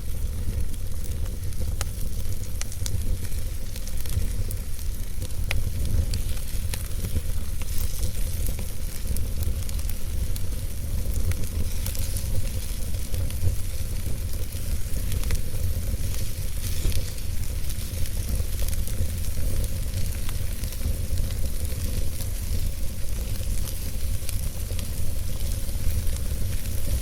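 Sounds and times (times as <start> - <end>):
campfire crackles and pops: 0.0 - 27.0
campfire hiss: 0.0 - 27.0.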